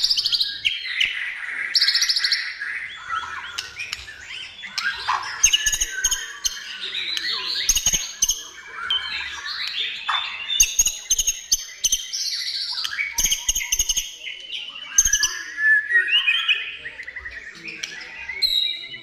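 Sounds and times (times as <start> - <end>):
bird singing whistled phrases: 0.0 - 19.0.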